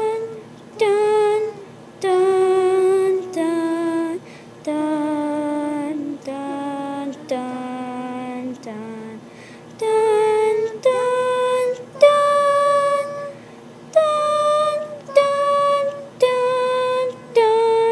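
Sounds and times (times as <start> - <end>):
woman singing slow melody: 0.0 - 17.9.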